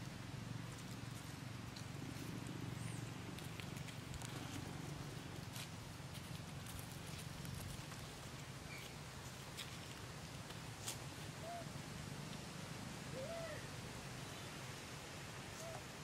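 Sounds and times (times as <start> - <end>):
steady low hum: 0.0 - 15.5.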